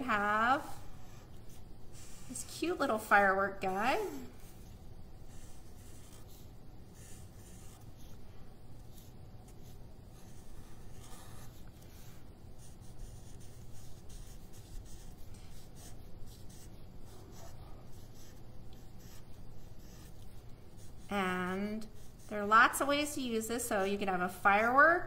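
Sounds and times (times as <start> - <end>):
marker pen drawing on paper: 0.0 - 24.7.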